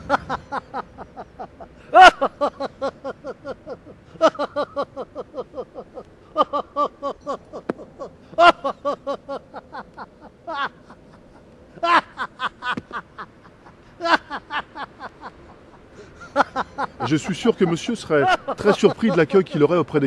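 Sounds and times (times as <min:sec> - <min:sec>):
man laughing heartily: 0:00.0 - 0:19.9.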